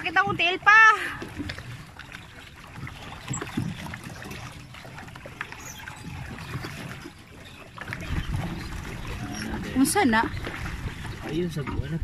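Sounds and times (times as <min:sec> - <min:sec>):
water churning and trickling: 0:00.0 - 0:12.0.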